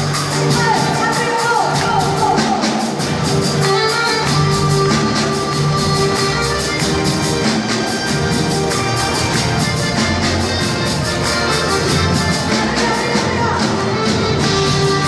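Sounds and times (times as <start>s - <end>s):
accordion: 0.0s - 15.0s
drums keeping a steady beat: 0.0s - 15.0s
guitar: 0.0s - 15.0s.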